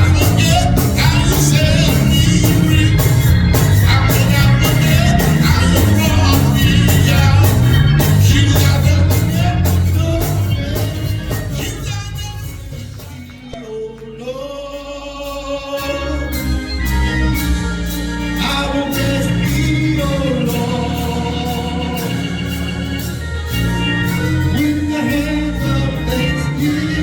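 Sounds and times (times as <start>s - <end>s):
gospel singers with band: 0.0s - 27.0s.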